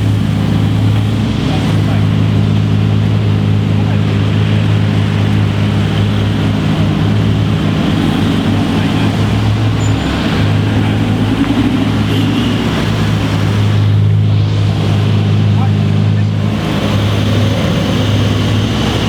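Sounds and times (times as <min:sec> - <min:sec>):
car engine droning at low revs: 0:00.0 - 0:19.0.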